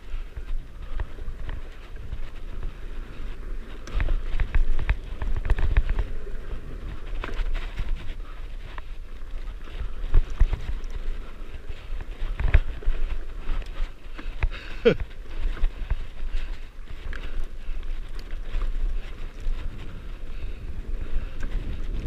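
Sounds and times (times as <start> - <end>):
bike rattling over bumps: 0.0 - 22.0
bike tyres and wind rumble: 0.0 - 22.0.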